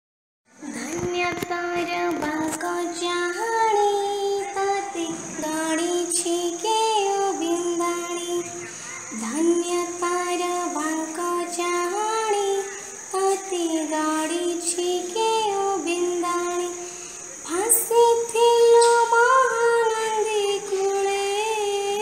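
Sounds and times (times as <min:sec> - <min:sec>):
faint high-pitched whine: 0:00.5 - 0:22.0
girl singing devotional song: 0:00.6 - 0:22.0.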